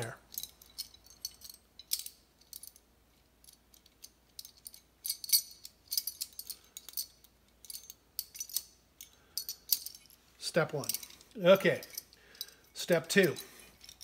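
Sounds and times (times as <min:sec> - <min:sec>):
small metal parts clinking: 0:00.0 - 0:14.0.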